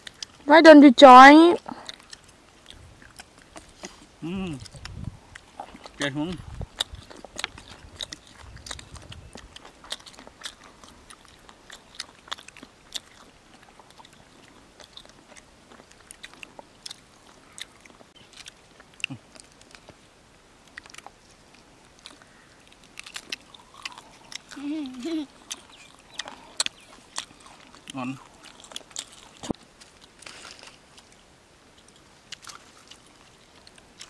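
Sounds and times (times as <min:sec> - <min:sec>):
person chewing food: 0:00.0 - 0:00.4, 0:01.6 - 0:34.0.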